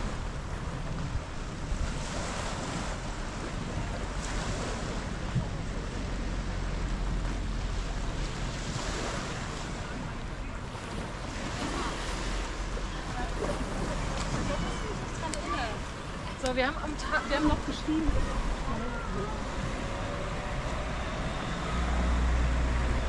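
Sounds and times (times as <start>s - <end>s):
wind blowing on microphone: 0.0s - 21.9s
waves washing against shore: 0.0s - 23.0s.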